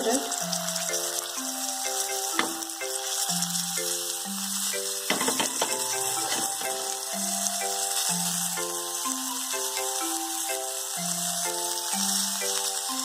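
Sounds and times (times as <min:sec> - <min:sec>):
background music simple melody: 0:00.0 - 0:13.0
fish sizzling in oil: 0:00.0 - 0:13.0.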